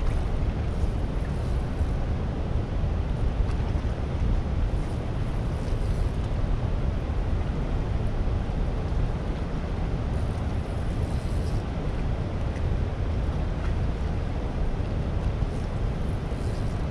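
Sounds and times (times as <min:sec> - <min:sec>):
water rushing below dam: 0:00.0 - 0:16.9
wind buffeting microphone: 0:00.0 - 0:16.9.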